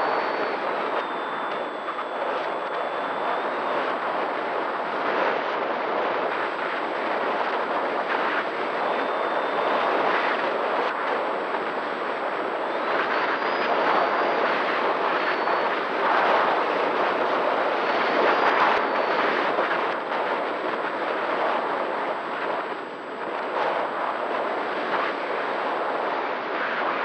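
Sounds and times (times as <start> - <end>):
faint steady motor tone: 0.0 - 5.7, 6.4 - 26.9
rush of air and propeller noise: 0.0 - 27.0.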